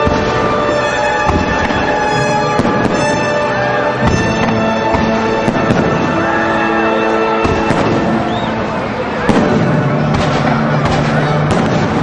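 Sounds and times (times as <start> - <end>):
firework sharp bangs: 0.0 - 6.5, 7.4 - 12.0
fireworks going off: 0.0 - 12.0
loud music with held notes: 0.0 - 12.0.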